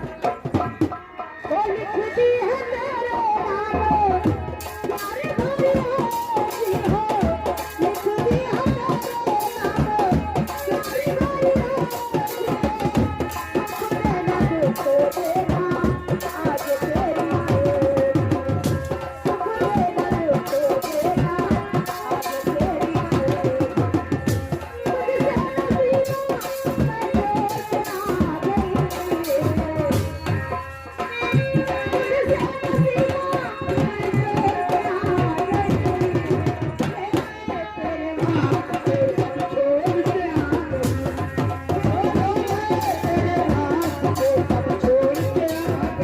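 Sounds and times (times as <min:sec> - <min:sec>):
hand drum rhythm: 0:00.0 - 0:01.7, 0:02.5 - 0:46.0.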